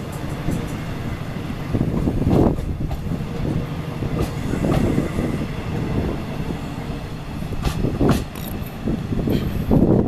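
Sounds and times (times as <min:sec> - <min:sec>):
train cars rolling past: 0:00.0 - 0:10.0.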